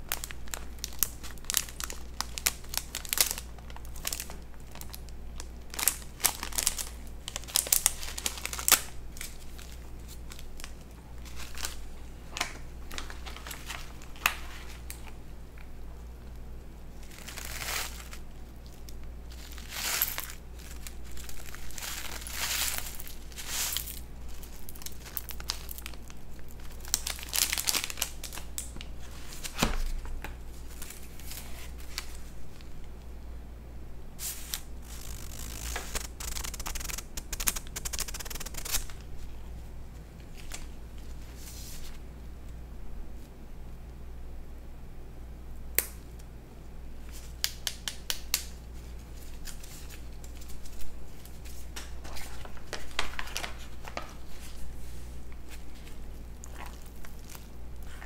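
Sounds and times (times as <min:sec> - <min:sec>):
packaging crinkling and rustling: 0:00.0 - 0:16.4, 0:17.0 - 0:32.8, 0:34.2 - 0:42.0, 0:47.0 - 0:58.0.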